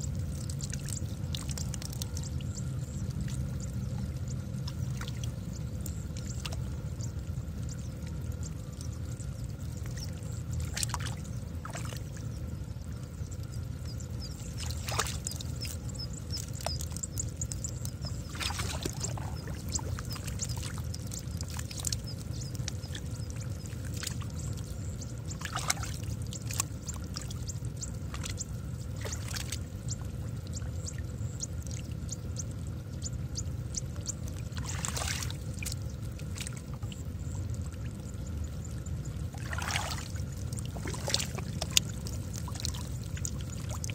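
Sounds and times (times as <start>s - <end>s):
muddy water sloshing and splashing: 0.0s - 43.9s
steady low rumble: 0.0s - 43.9s.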